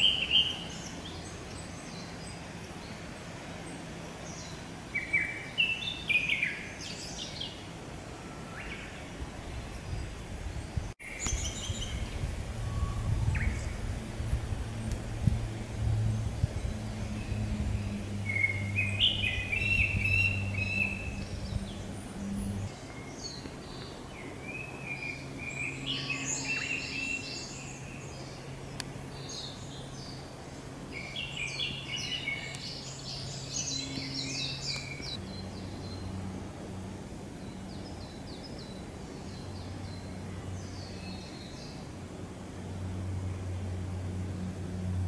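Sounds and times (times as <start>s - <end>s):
songbirds singing: 0.0s - 45.0s
low steady hum: 6.6s - 45.0s.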